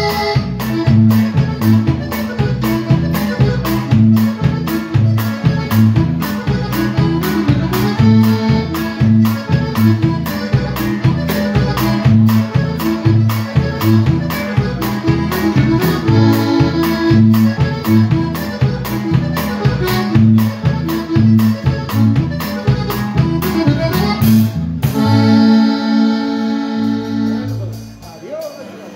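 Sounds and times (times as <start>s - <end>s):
bass alternating notes: 0.0s - 28.4s
accordion: 0.0s - 28.9s
bajo sexto strumming: 0.0s - 28.9s.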